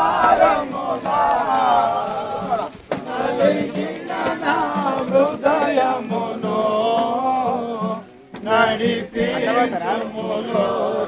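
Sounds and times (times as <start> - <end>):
group singing devotional chant: 0.0 - 11.0.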